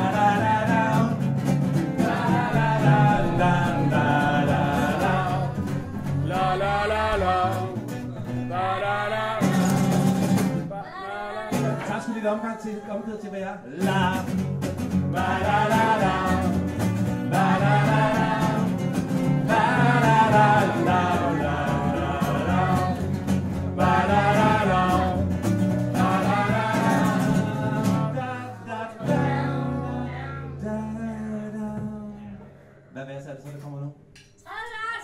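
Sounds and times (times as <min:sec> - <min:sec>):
person singing: 0:00.0 - 0:01.2, 0:02.0 - 0:14.3, 0:15.1 - 0:23.2, 0:23.8 - 0:32.5
strummed acoustic guitars: 0:00.0 - 0:32.2.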